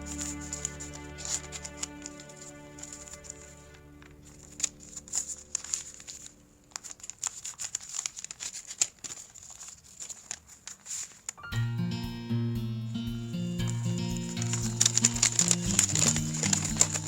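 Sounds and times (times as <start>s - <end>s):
packaging crinkling: 0.0s - 11.4s, 13.8s - 17.0s.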